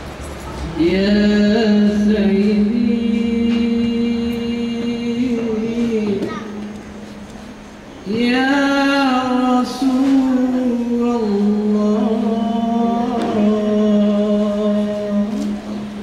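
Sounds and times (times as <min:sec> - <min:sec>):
man chanting into a microphone: 0:00.7 - 0:06.6, 0:08.0 - 0:15.9.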